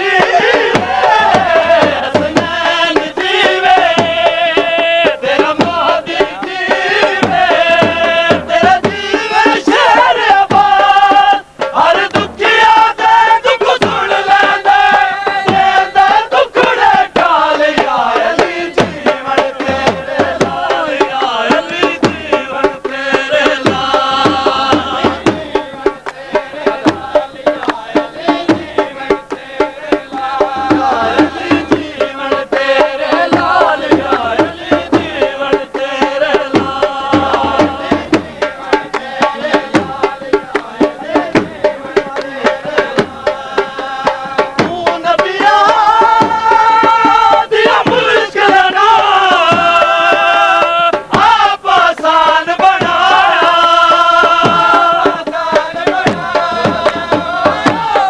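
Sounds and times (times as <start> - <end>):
drum beaten in fast rhythm: 0.0 - 58.0
men singing together: 0.0 - 58.0.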